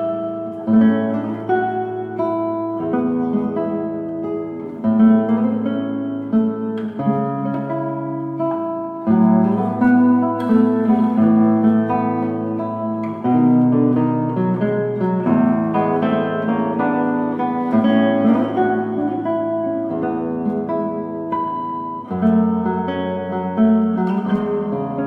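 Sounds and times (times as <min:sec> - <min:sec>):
plucked acoustic guitar music: 0:00.0 - 0:25.0.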